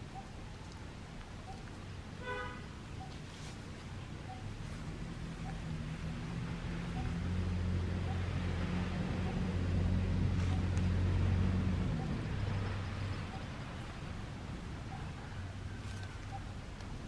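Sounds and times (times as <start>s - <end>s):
distant motor vehicle passing: 2.6s - 17.0s.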